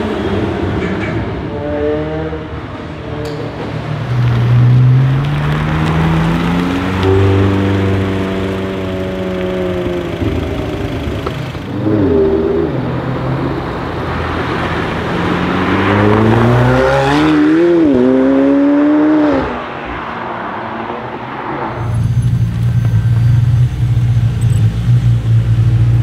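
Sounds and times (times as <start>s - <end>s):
car engine accelerating hard: 4.2s - 26.0s.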